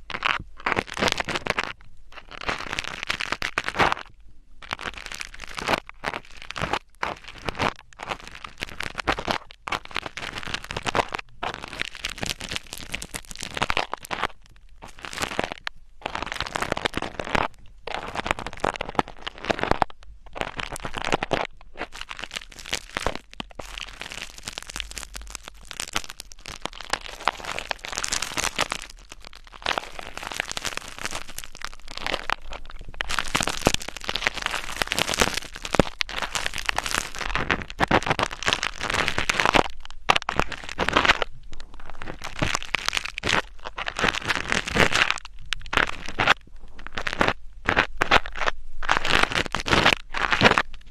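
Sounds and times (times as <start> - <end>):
scratching and rubbing on microphone: 0.0 - 50.9.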